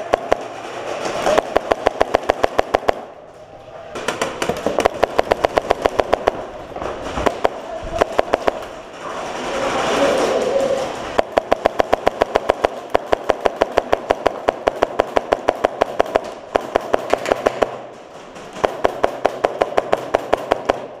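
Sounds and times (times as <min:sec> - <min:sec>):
airsoft gun firing bursts: 0:00.0 - 0:03.1, 0:04.0 - 0:06.6, 0:07.2 - 0:08.8, 0:11.2 - 0:21.0.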